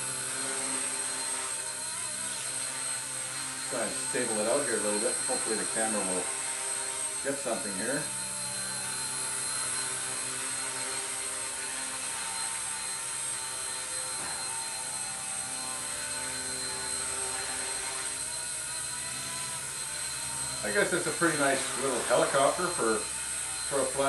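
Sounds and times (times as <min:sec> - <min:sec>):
rc helicopter rotor whine: 0:00.0 - 0:24.0.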